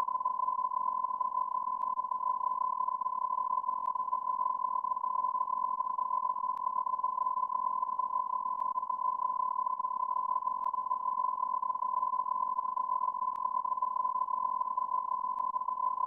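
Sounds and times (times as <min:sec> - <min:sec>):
steady electronic beep tone: 0:00.0 - 0:16.0.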